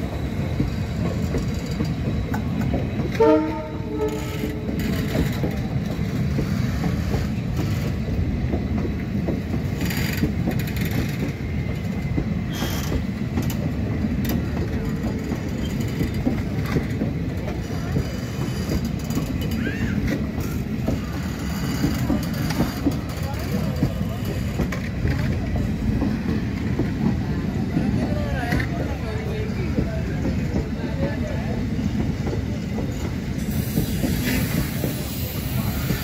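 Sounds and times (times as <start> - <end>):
train wheels rumbling: 0.0 - 36.0
clacks over rail joints: 0.1 - 36.0.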